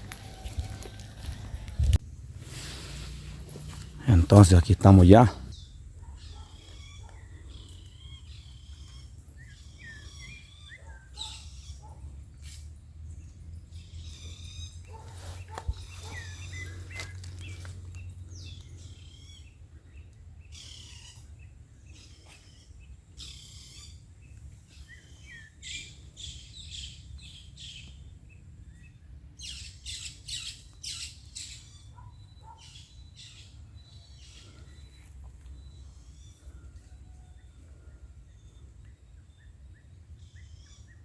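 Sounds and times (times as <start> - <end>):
wild birds chirping: 0.0 - 41.0.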